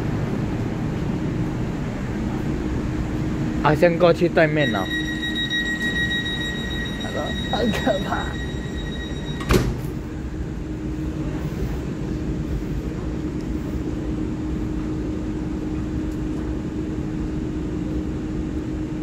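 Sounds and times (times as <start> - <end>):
electric train humming: 0.0 - 19.0.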